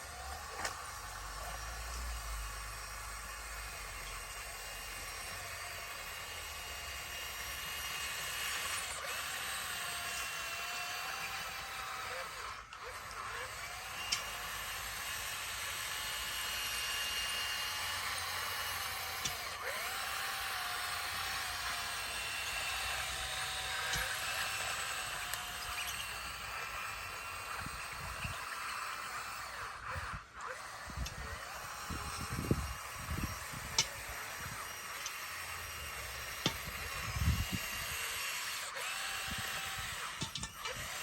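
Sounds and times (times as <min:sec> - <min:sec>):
bulldozer whining: 0:00.0 - 0:41.0
sharp mechanical clicks: 0:00.0 - 0:41.0.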